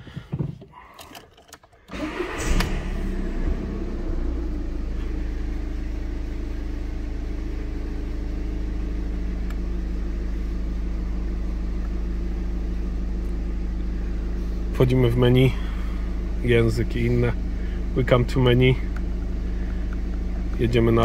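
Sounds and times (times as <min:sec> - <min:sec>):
diesel engine starting and idling: 0:00.0 - 0:21.0.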